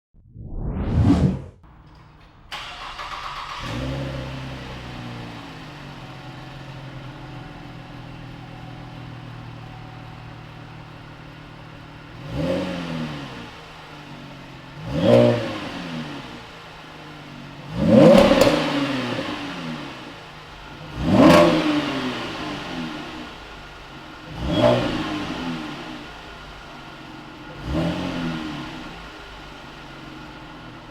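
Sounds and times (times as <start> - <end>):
engine revving: 0.4 - 30.9
car engine starting and idling: 1.6 - 30.9.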